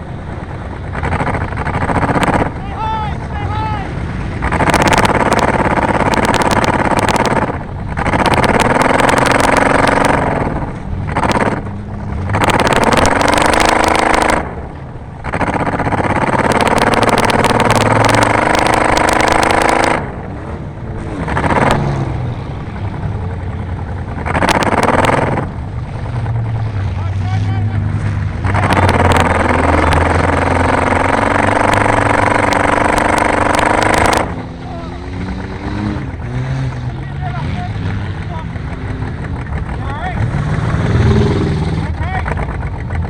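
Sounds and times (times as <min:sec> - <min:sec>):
car engine revving: 0:00.0 - 0:43.0
sharp clicks and rattles: 0:00.0 - 0:43.0.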